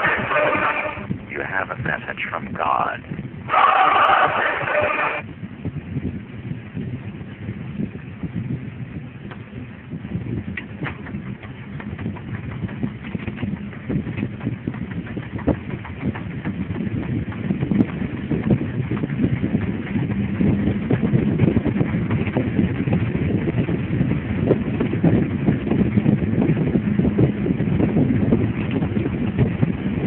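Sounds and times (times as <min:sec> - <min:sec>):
wind buffeting microphone: 0:00.0 - 0:30.0
bicycle rattling on paved road: 0:05.2 - 0:30.0.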